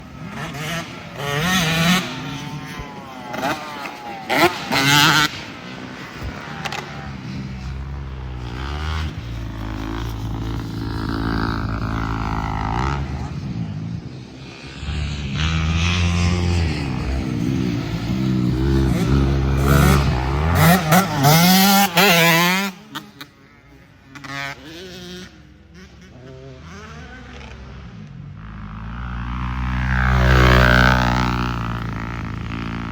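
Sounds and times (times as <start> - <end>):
dirt bike engines revving: 0.0 - 32.9.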